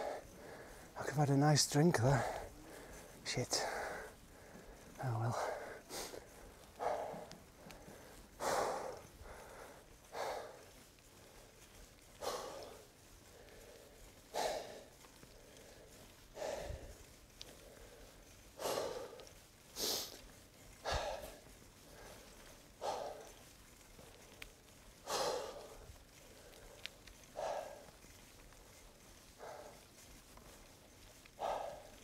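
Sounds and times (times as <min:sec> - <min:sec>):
person breathing heavily: 0:00.0 - 0:32.0.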